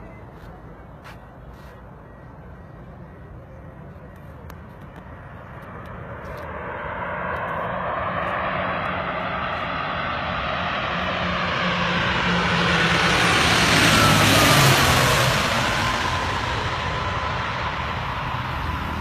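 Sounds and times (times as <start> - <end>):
propeller plane engine drone: 0.0 - 19.0
engine whine falling in pitch: 2.1 - 19.0.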